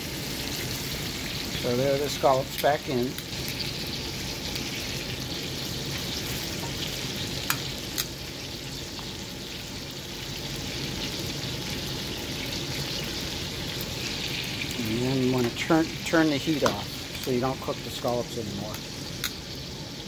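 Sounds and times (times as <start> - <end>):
scallops sizzling in a pan: 0.0 - 20.0.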